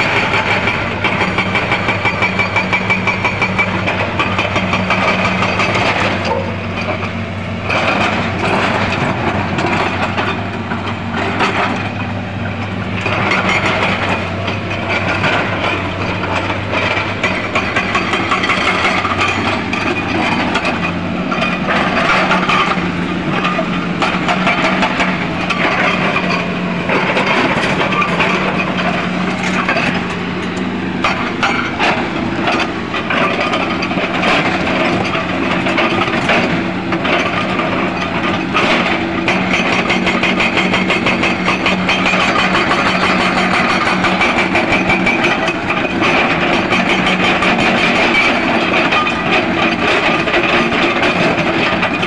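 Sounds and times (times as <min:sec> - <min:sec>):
diesel engine running: 0:00.0 - 0:52.0
hydraulic breaker hammering rock: 0:00.0 - 0:52.0.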